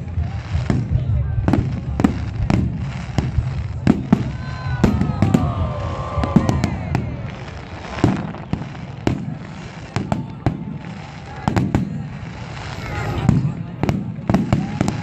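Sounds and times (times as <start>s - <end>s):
falling whistling fireworks: 0.0s - 15.0s
fireworks bangs and crackling: 0.0s - 15.0s.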